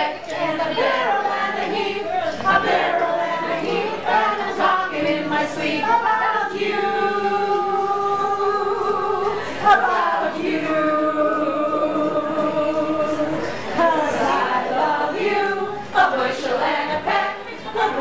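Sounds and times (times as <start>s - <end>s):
group singing unaccompanied: 0.0s - 18.0s.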